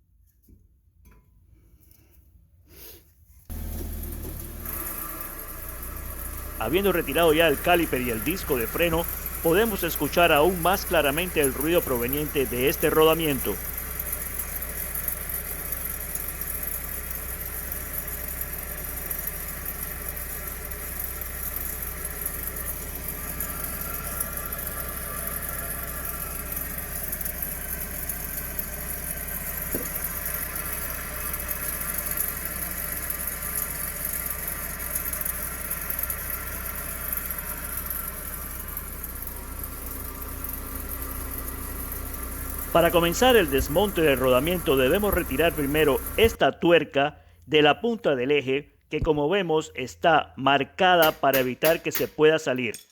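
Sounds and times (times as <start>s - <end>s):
wheel bearing droning: 3.5s - 46.4s.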